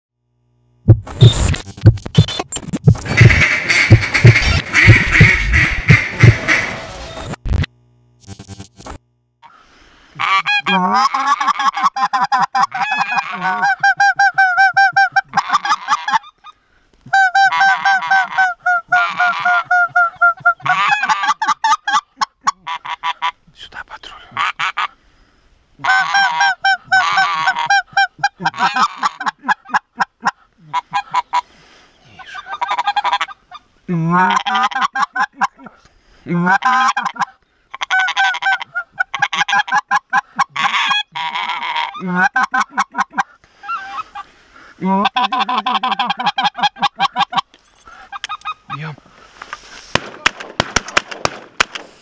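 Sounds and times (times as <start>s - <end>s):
goose calls honking and clucking: 2.2s - 7.3s, 10.2s - 23.4s, 24.3s - 25.0s, 25.8s - 35.7s, 36.3s - 49.0s.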